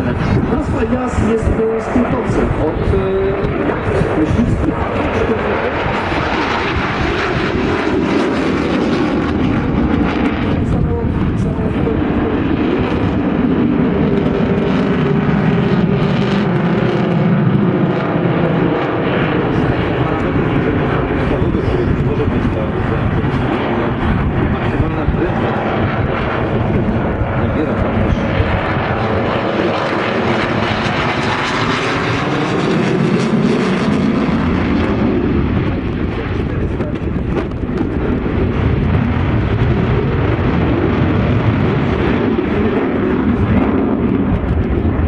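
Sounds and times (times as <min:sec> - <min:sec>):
fighter jet noise: 0:00.0 - 0:45.0.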